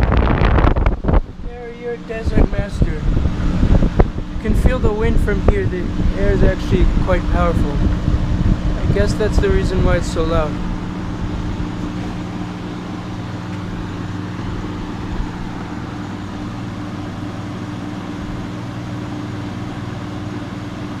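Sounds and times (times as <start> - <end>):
air conditioner fan rushing: 0.0 - 21.0
low even hum: 0.0 - 21.0.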